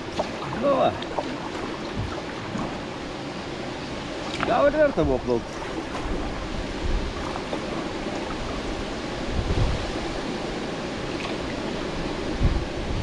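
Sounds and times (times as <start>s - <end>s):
river water rushing: 0.0s - 13.0s
wind on microphone: 0.0s - 13.0s.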